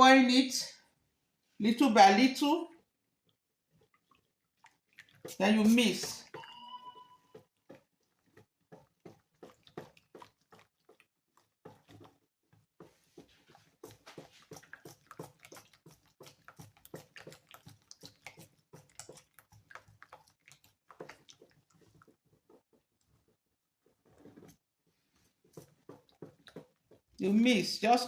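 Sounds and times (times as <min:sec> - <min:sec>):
batter mixing in a bowl: 0:01.6 - 0:28.0.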